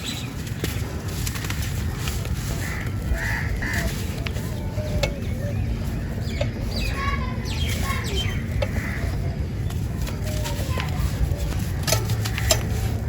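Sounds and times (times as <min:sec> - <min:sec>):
birds calling: 0:00.0 - 0:13.0
steady low rumble: 0:00.0 - 0:13.0.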